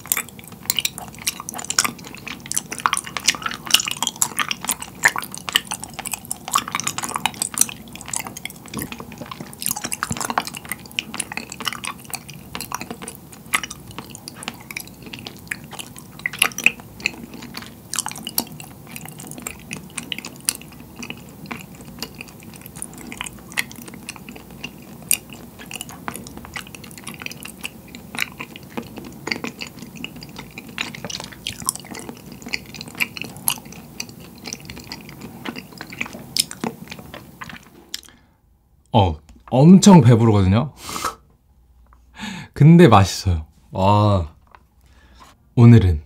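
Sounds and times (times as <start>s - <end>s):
chewing tapioca pearls: 0.0s - 38.4s, 43.7s - 45.4s.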